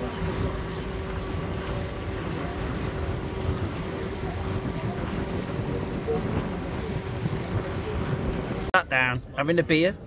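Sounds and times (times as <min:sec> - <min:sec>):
boat engine droning: 0:00.0 - 0:10.0
wind buffeting microphone: 0:00.0 - 0:10.0.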